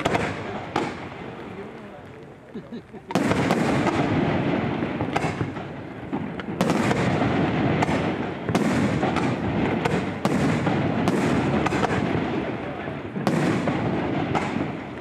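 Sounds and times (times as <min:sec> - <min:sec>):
fireworks bangs: 0:00.0 - 0:15.0
fireworks rumble and crackle: 0:00.0 - 0:15.0.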